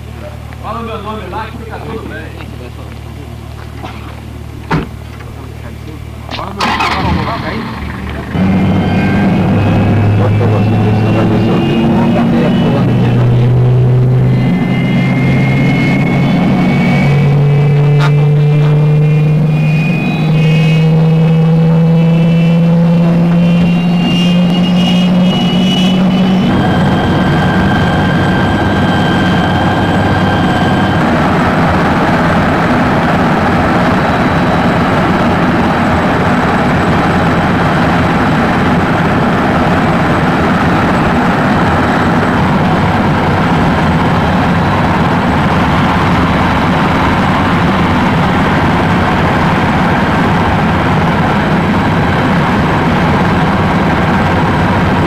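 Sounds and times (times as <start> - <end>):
faint high whine: 0.0 - 55.0
helicopter engine and rotor drone: 0.0 - 55.0
steady engine hum: 0.0 - 55.0.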